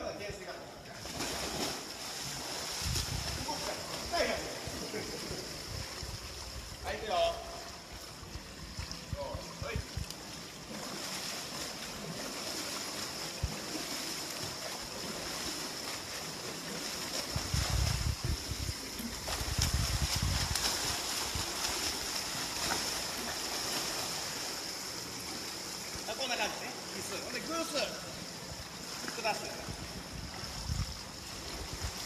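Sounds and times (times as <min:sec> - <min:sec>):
indoor pool hall hiss: 0:00.0 - 0:32.0
water sloshing and splashing: 0:00.9 - 0:32.0.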